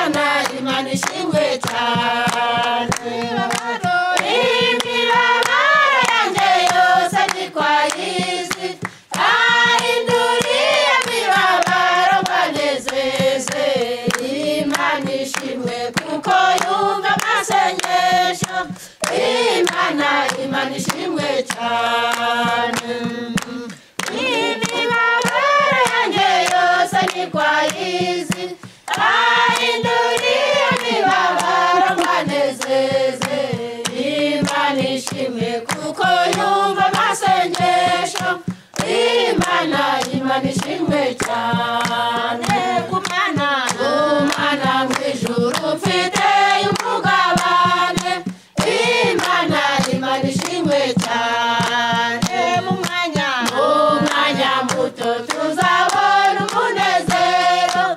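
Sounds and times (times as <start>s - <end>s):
hands clapping: 0.0s - 57.9s
women singing a hymn: 0.0s - 57.9s.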